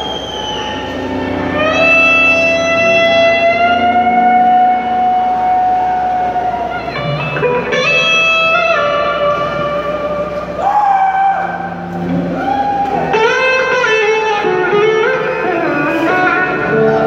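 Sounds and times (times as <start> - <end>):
band playing quietly: 0.0 - 17.0
electric slide guitar notes: 0.6 - 17.0.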